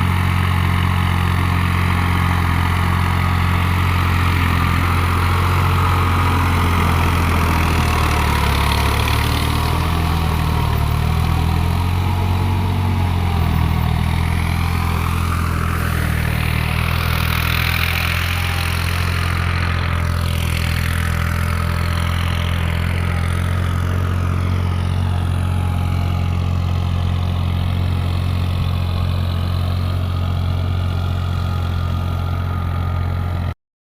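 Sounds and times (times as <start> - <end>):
tractor diesel engine running: 0.0 - 33.6.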